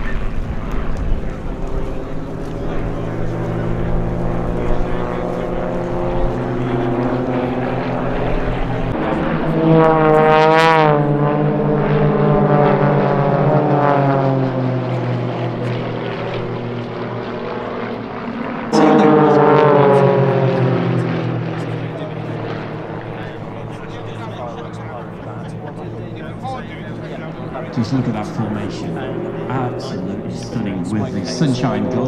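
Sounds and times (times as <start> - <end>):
model plane engines droning: 0.0 - 32.0.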